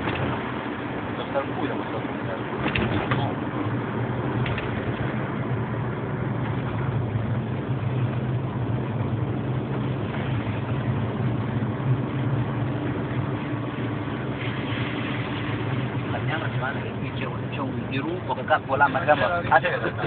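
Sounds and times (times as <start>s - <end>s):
car engine drone and road noise: 0.0s - 20.0s.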